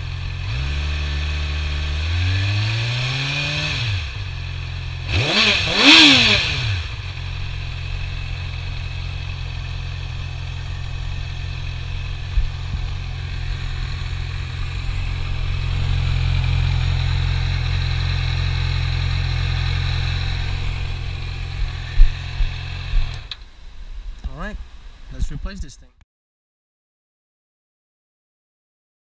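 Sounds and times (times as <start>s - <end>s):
motorcycle engine idling: 0.0s - 23.6s.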